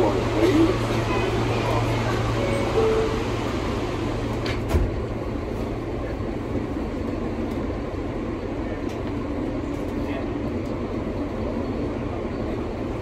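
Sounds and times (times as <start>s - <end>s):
subway car rumbling: 0.0s - 13.0s.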